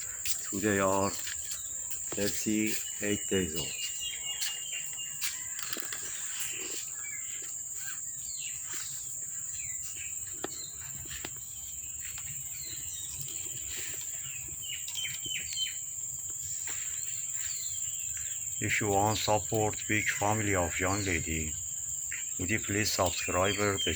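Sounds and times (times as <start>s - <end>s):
crickets chorus: 0.0s - 23.9s.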